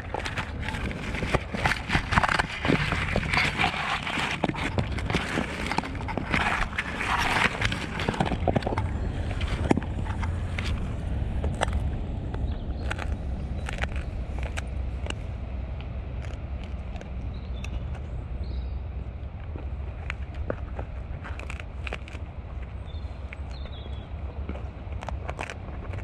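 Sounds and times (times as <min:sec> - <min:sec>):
dog chewing crunchy treat: 0:00.0 - 0:15.3, 0:16.0 - 0:18.2, 0:19.3 - 0:26.0
steady low rumble: 0:00.0 - 0:26.0.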